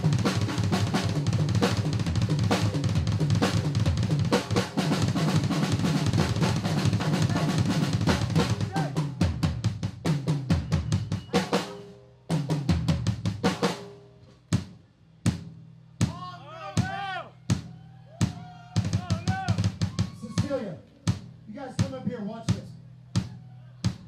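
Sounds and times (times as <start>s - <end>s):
drum kit playing: 0.0s - 24.0s.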